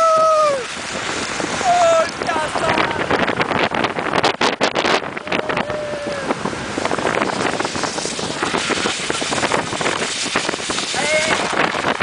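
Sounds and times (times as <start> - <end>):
rushing noise over sand: 0.0 - 12.0
wind buffeting microphone: 0.0 - 12.0.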